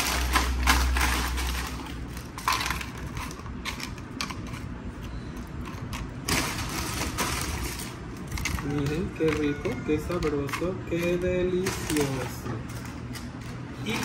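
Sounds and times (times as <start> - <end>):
plastic bag crinkling: 0.0 - 4.7, 5.6 - 14.0
chips rustling and crackling: 0.0 - 14.0.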